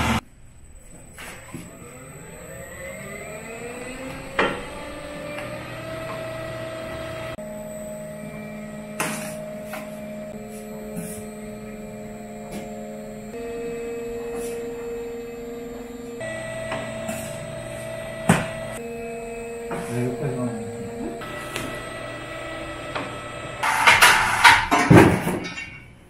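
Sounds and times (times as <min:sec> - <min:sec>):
machine motor hum: 0:00.0 - 0:24.6.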